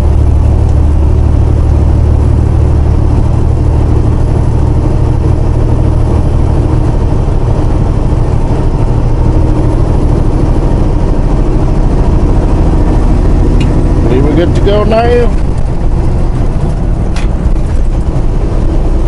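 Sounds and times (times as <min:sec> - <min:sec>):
road noise: 0:00.0 - 0:19.0
truck diesel engine droning: 0:00.0 - 0:19.0.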